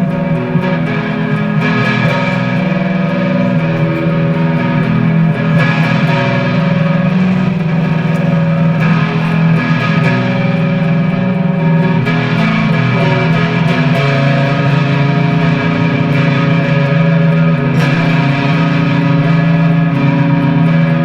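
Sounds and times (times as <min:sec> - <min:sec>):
bass guitar: 0:00.0 - 0:21.0
electric guitars ringing chords: 0:00.0 - 0:21.0.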